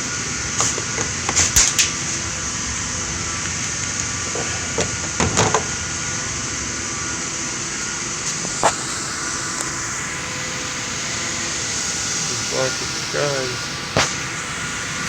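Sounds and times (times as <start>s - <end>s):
car engine idling: 2.3s - 15.0s.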